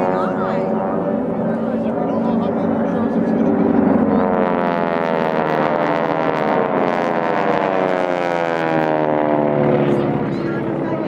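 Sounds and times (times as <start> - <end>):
propeller plane engines droning overhead: 0.0 - 11.0.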